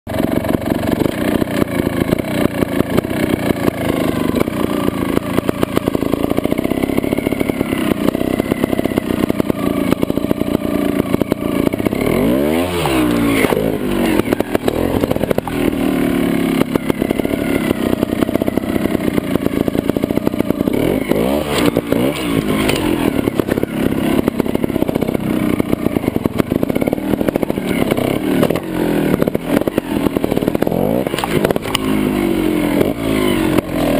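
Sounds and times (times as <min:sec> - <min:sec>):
motorcycle engine with throttle blips: 0:00.1 - 0:33.9.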